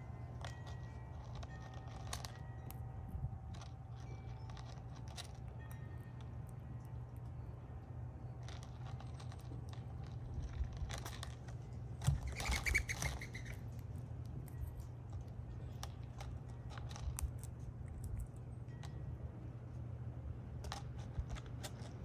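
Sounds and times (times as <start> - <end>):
squirrel cracking seeds: 0.0 - 2.8, 3.4 - 19.0
steady low hum: 0.0 - 22.0.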